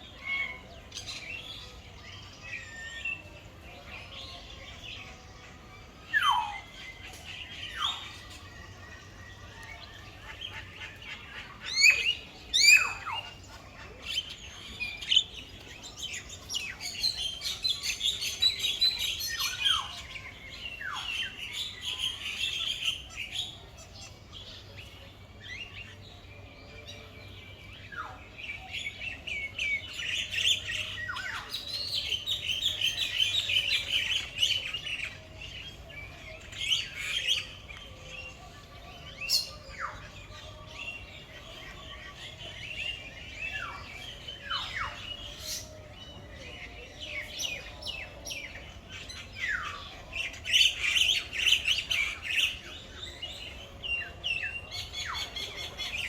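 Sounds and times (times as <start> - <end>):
many birds chirping: 0.0 - 56.0.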